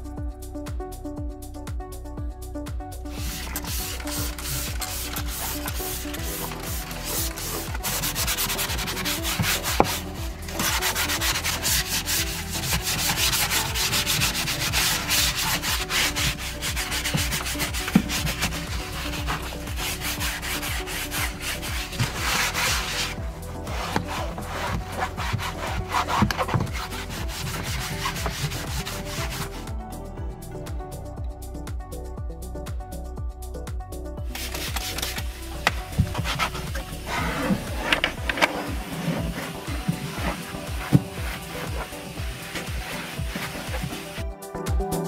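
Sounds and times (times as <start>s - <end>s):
brush scrubbing a surface: 3.1s - 29.7s, 34.3s - 44.2s.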